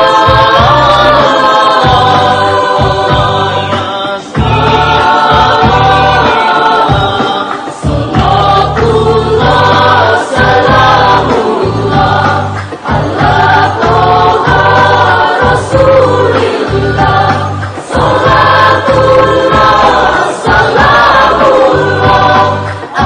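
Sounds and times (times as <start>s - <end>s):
choir singing without instruments: 0.0s - 23.0s.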